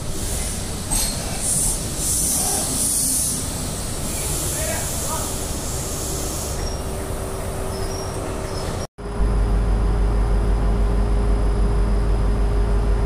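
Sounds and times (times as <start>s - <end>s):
diesel locomotive idling: 0.0s - 13.0s
train hum and hiss: 0.0s - 13.0s.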